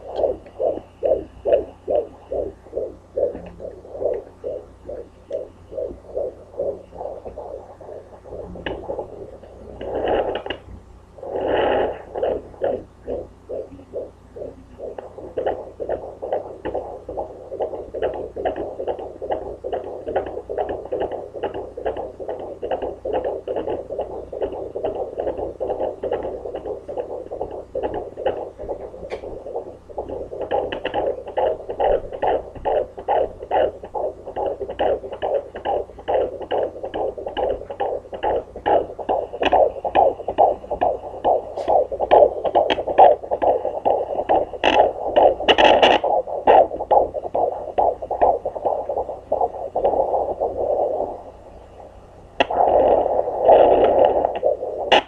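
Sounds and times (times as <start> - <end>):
doppler heartbeat pulsing: 0.0 - 55.0.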